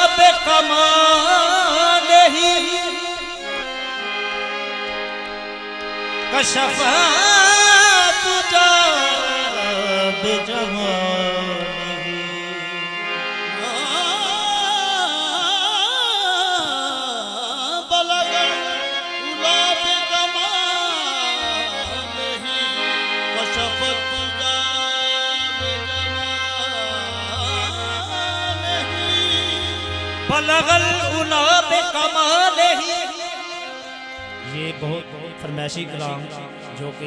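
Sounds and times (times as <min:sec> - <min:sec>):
person singing ornamented melody: 0:00.0 - 0:04.0, 0:06.2 - 0:37.0
harmonium chords: 0:00.0 - 0:37.0.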